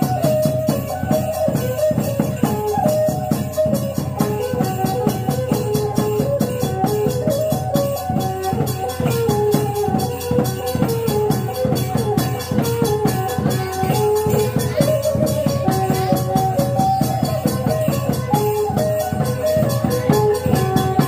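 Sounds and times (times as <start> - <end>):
fast drum beating: 0.0 - 21.0
small rattling percussion: 0.0 - 21.0.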